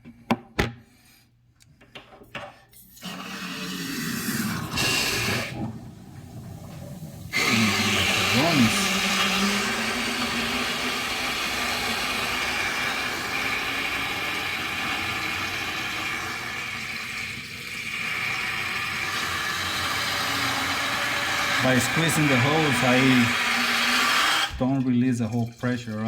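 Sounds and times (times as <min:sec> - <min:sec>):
water rushing through a hose: 0:03.0 - 0:26.0.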